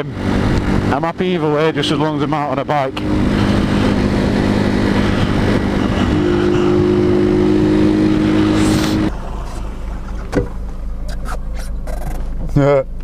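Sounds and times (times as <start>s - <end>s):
noisy rush: 0.0s - 12.4s
motorcycle engine cruising: 0.0s - 12.6s
low hum: 0.0s - 13.0s.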